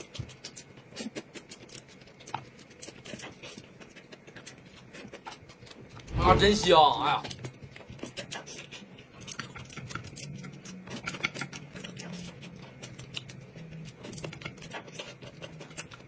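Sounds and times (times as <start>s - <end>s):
person chewing food: 0.0s - 6.2s, 7.0s - 16.0s.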